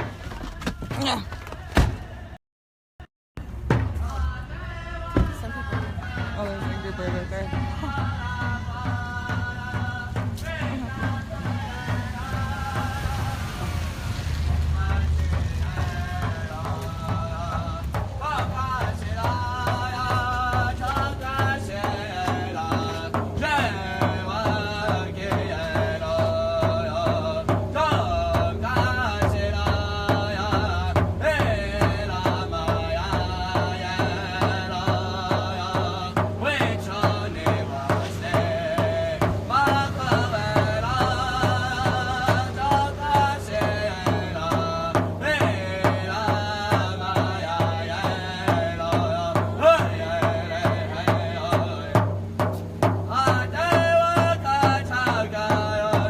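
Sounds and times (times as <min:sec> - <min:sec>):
voices singing: 0:00.0 - 0:02.4, 0:03.4 - 0:56.0
steady drum beat: 0:03.4 - 0:56.0.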